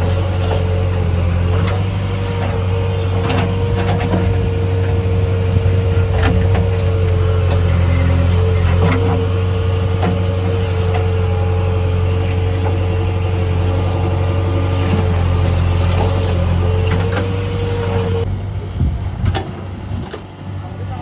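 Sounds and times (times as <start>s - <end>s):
machinery whine: 0.0s - 20.9s
diesel engine running: 0.0s - 21.0s.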